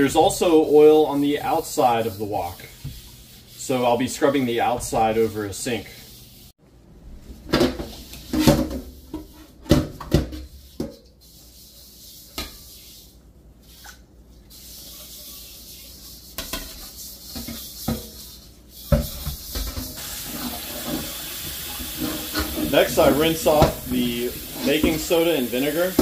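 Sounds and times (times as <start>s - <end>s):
steel pad scouring metal wok: 0.0s - 6.5s, 10.5s - 13.8s, 14.5s - 26.0s.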